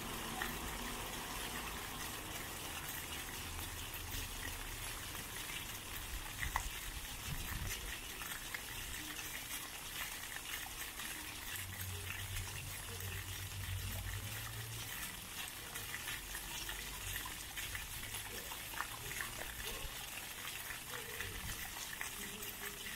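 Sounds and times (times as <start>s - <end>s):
fountain jets splashing on paving: 0.0s - 22.9s
water drips: 0.0s - 22.9s.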